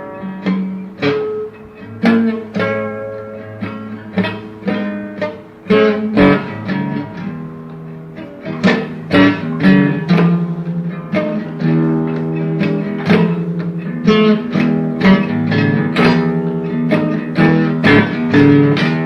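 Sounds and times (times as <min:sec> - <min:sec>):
blues guitar plucked notes: 0:00.0 - 0:19.0.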